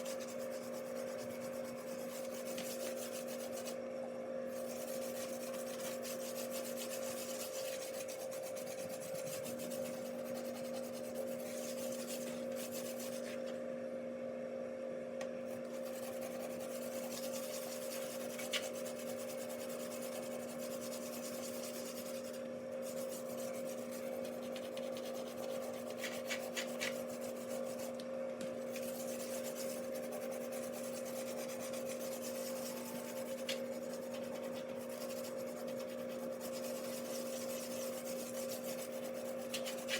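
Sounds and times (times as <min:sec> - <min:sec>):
tablet scrubbing on glass: 0:00.0 - 0:03.8, 0:04.5 - 0:13.5, 0:15.6 - 0:28.0, 0:28.6 - 0:39.9.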